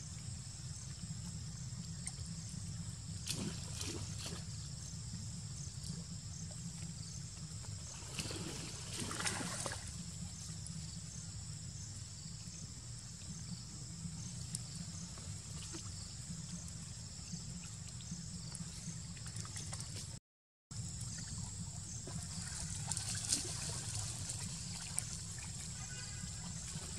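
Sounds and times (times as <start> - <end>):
water sloshing and trickling: 0.2 - 5.0, 5.8 - 10.9, 13.0 - 20.2, 20.8 - 26.9.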